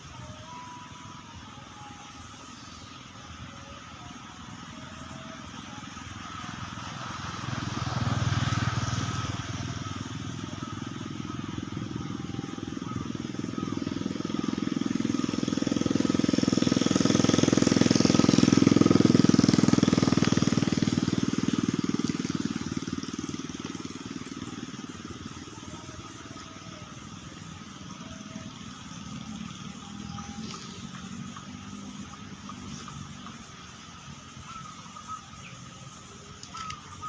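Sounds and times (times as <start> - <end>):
vehicle engine passing by: 4.8 - 37.0.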